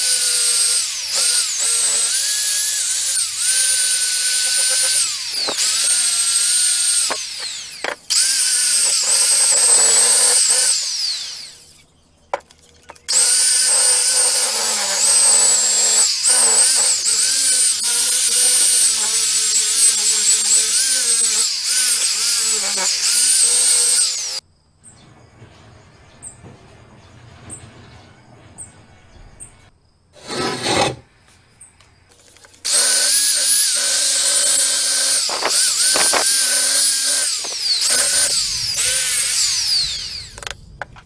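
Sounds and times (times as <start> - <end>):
angle grinder whining on metal: 0.0 - 24.4, 30.2 - 31.1, 32.2 - 41.0.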